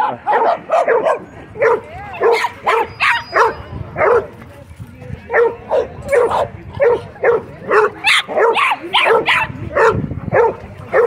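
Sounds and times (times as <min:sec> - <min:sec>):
dog barking: 0:00.0 - 0:04.3, 0:05.3 - 0:11.0.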